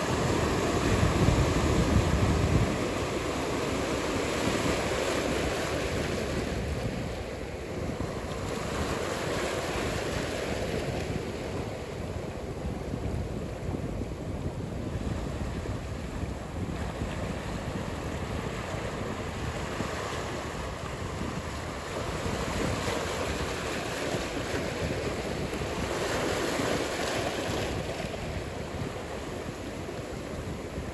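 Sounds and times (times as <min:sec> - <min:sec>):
ocean waves breaking: 0:00.0 - 0:30.9.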